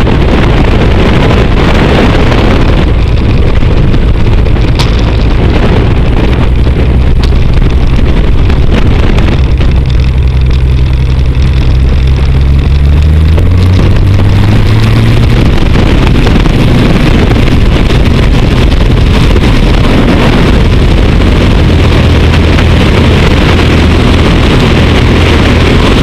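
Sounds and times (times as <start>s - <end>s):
propeller aircraft engine running: 0.0s - 26.0s
wind buffeting microphone: 0.0s - 26.0s.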